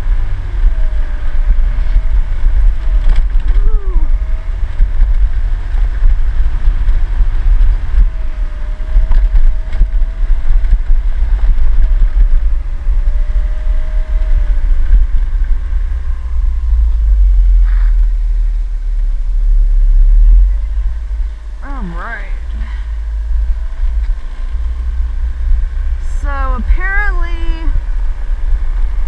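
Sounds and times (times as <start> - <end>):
scooter engine whine: 0.0 - 29.0
wind and road rumble: 0.0 - 29.0.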